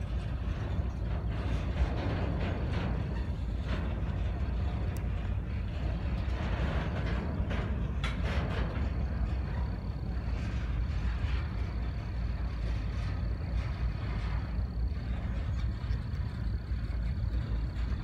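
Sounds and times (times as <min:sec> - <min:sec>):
freight cars rolling on steel wheels: 0:00.0 - 0:18.0
wheels clanking and clicking: 0:00.0 - 0:18.0.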